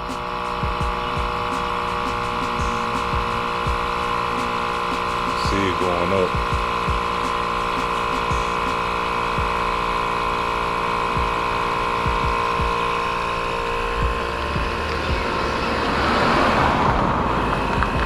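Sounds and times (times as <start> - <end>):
air pump running: 0.0 - 15.8.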